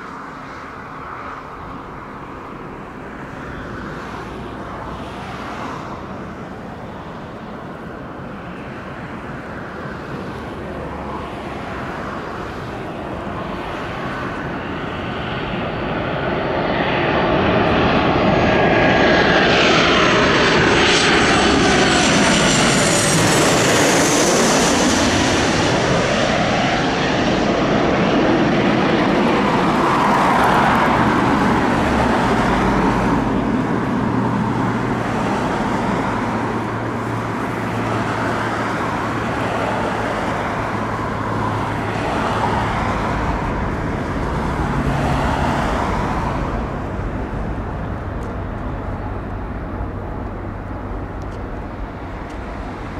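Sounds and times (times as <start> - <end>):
jet airliner passing low: 0.0 - 52.9
jet engine noise on runway: 0.0 - 52.9.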